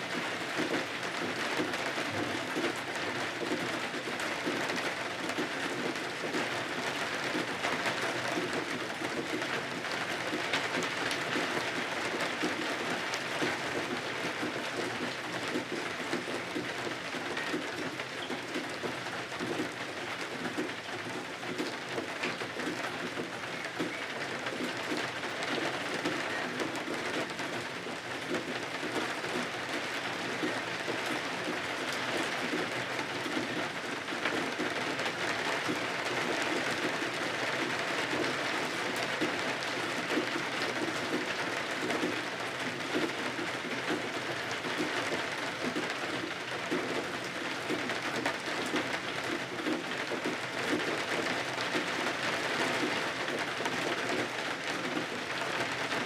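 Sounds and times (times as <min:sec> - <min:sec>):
rain pattering on windows: 0:00.0 - 0:56.0.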